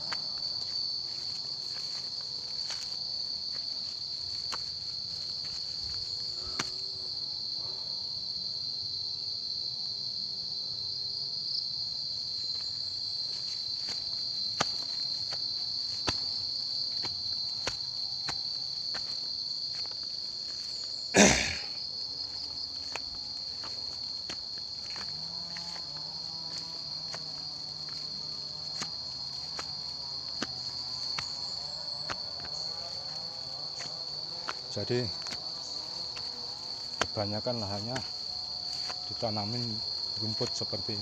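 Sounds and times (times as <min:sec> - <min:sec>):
footsteps on rocky trail: 0:00.0 - 0:06.8, 0:12.4 - 0:41.0
high-pitched insect chorus: 0:00.0 - 0:41.0.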